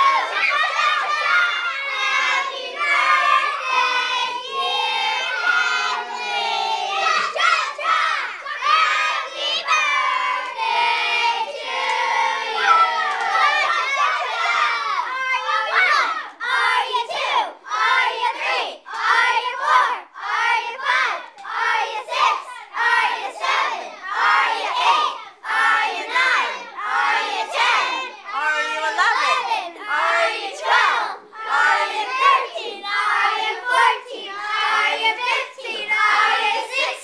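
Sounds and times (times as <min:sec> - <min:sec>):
children talking and shouting: 0:00.0 - 0:37.0.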